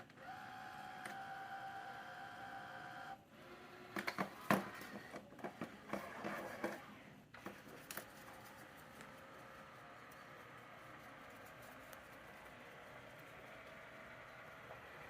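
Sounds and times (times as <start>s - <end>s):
robot vacuum motor whine: 0.0s - 15.0s.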